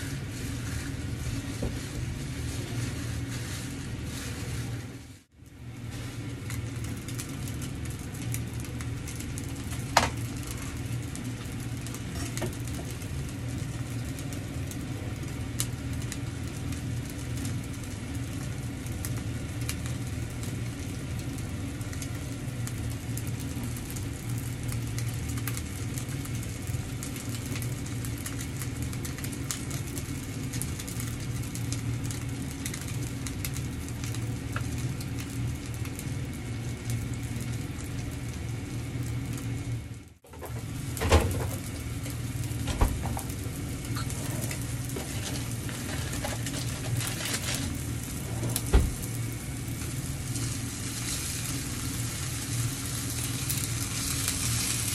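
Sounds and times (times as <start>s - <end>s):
low mechanical hum: 0.0s - 54.9s
meatballs sizzling in frying pan: 0.0s - 54.9s.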